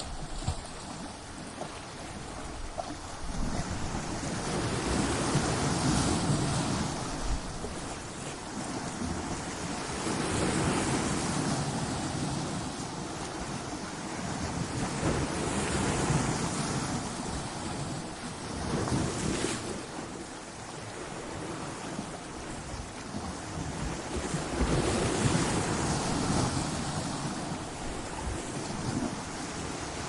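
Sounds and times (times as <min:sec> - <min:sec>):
ocean waves crashing on rocks: 0:00.0 - 0:30.0.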